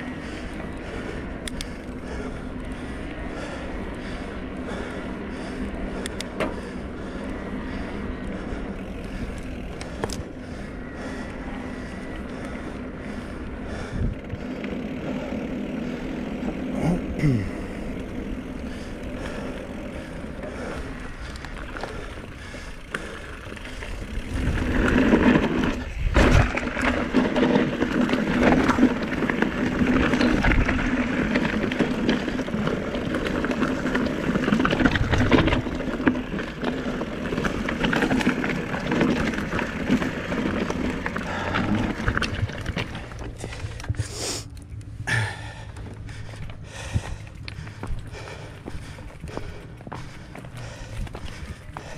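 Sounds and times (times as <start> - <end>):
bike knocking and rattling: 0.0 - 51.9
bike tyre rolling noise: 0.0 - 51.9
steady motor hum: 0.0 - 51.9.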